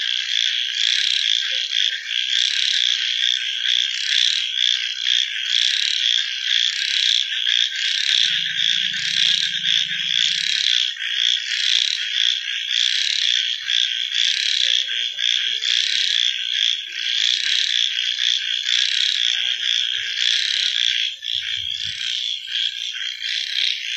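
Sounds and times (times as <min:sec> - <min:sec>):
chorus of frogs trilling: 0:00.0 - 0:23.9.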